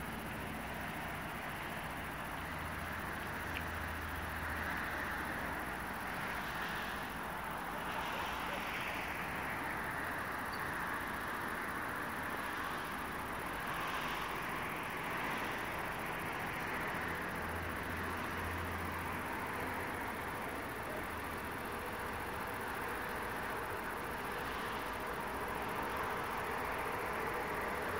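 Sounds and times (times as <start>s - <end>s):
distant road traffic hum: 0.0s - 27.9s.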